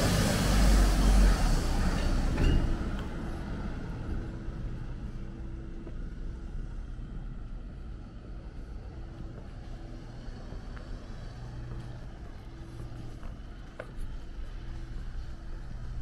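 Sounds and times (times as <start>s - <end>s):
distant traffic: 0.0s - 16.0s
vehicle passing: 0.0s - 16.0s.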